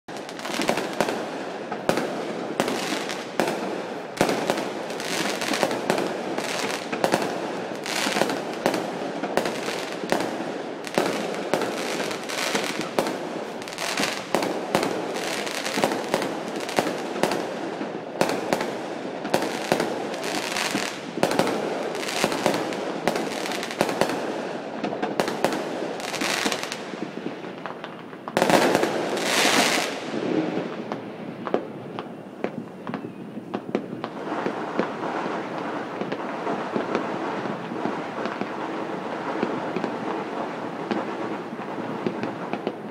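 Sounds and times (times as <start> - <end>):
fireworks banging and crackling: 0.1 - 42.9.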